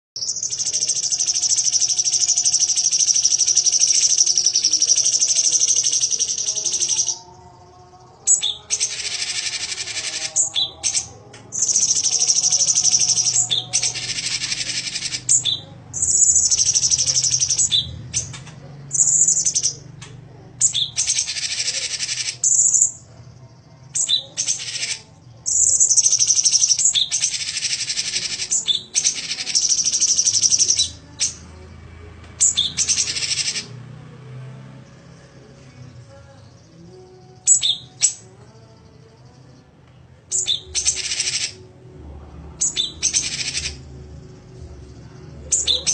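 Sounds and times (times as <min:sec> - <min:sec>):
songbird chattering: 0:00.2 - 0:31.8, 0:32.4 - 0:33.8, 0:35.8 - 0:41.7, 0:42.5 - 0:45.9.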